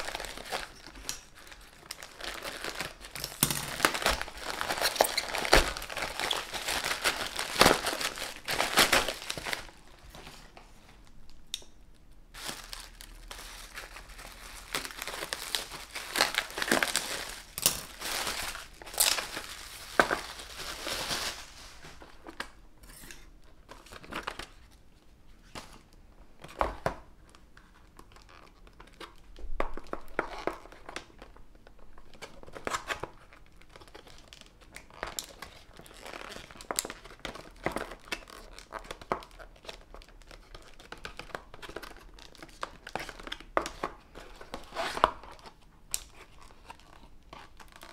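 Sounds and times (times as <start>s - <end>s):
plastic packaging crinkling: 0.0s - 11.1s, 12.3s - 22.6s, 26.5s - 47.9s.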